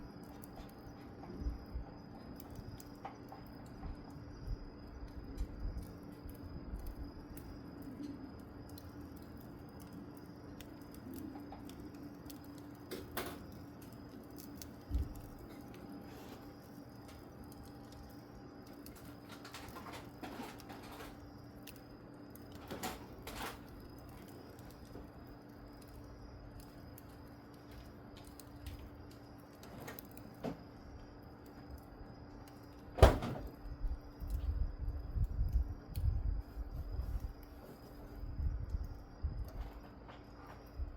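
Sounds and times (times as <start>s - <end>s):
fire crackles and knocks: 0.0s - 40.9s
steady low hum: 0.0s - 40.9s.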